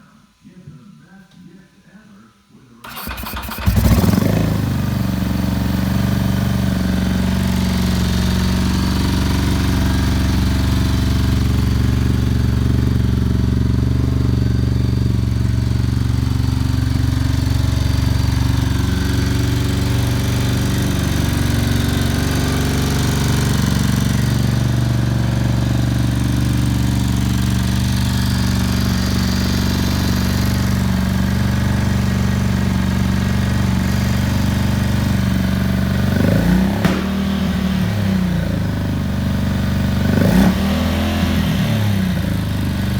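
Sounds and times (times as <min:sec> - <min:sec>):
motorcycle engine starting and idling: 0:02.8 - 0:42.9.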